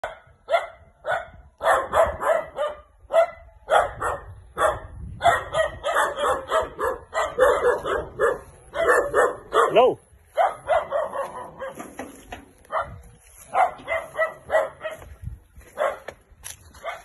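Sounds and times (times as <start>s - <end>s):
dog barking: 0.0s - 16.2s, 16.8s - 17.0s.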